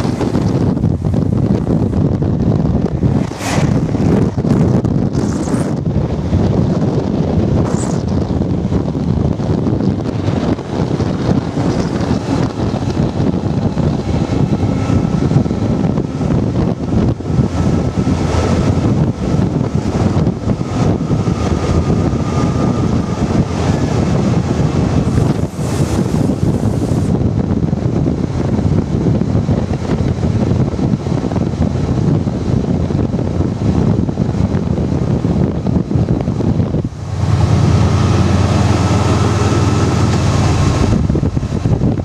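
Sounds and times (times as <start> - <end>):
train rumbling on board: 0.0 - 42.0
wind noise on microphone: 0.0 - 42.0.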